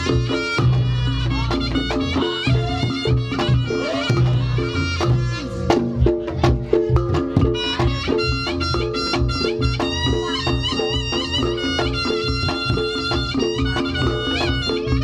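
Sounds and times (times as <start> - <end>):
drums and gongs: 0.0 - 15.0
shawm melody: 0.0 - 15.0.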